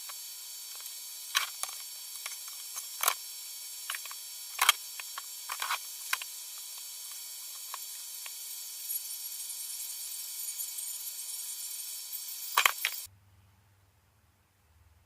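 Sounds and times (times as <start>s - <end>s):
steady hiss: 0.0s - 13.1s.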